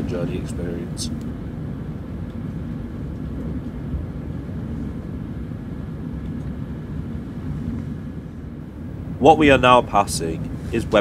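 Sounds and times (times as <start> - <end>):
train running gear rumble: 0.0 - 11.0.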